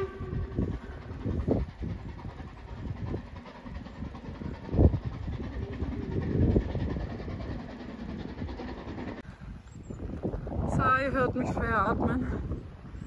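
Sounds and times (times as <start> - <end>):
distant steam locomotive rumble: 0.0 - 13.0.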